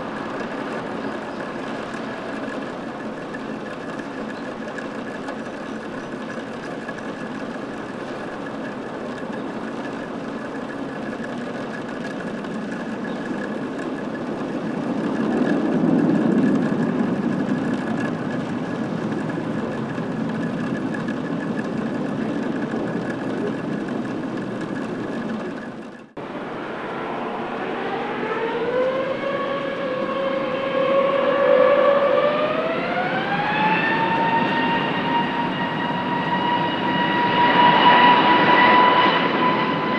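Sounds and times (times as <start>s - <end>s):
jet engines rumbling and whining: 0.0s - 39.9s
jet engines spooling up: 0.0s - 39.9s.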